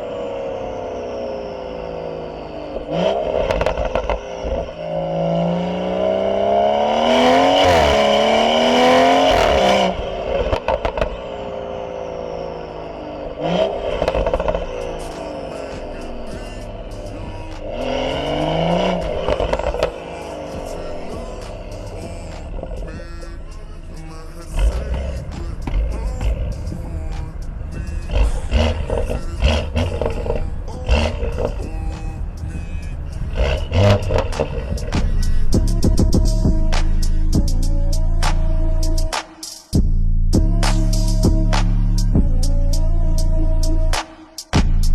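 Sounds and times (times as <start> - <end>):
car engine accelerating: 0.0 - 44.9
exhaust crackles: 0.0 - 44.9
music playing: 7.1 - 44.9.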